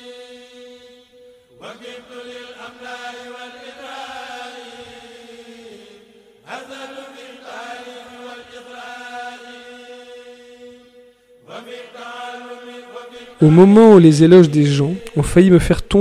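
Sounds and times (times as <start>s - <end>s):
person chanting: 1.6s - 10.9s, 11.5s - 16.0s.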